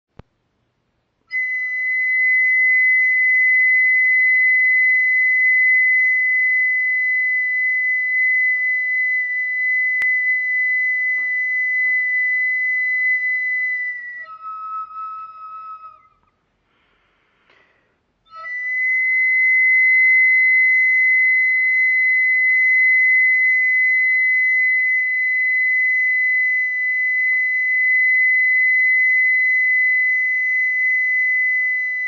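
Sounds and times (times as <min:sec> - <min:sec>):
long whistle-like note: 0:01.3 - 0:16.9, 0:18.3 - 0:32.0.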